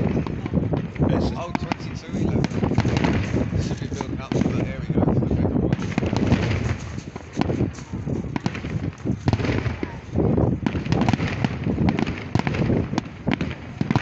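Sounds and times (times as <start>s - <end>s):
firework shells bursting: 0.0s - 5.1s, 5.7s - 14.0s
wind rumble on microphone: 0.0s - 14.0s.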